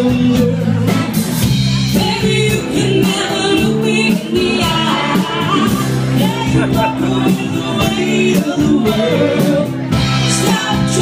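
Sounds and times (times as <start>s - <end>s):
live rock band playing: 0.0s - 11.0s
woman singing lead: 1.9s - 11.0s.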